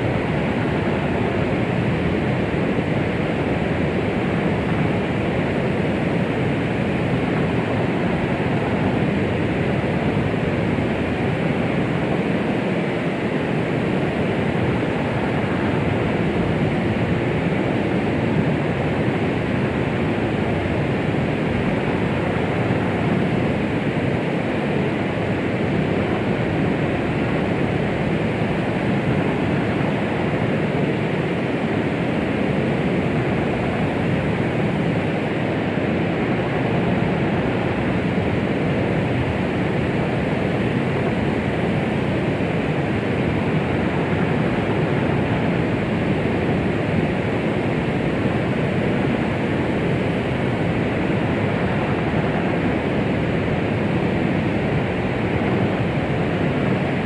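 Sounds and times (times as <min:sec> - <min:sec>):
muffled white noise hiss: 0:00.0 - 0:57.0.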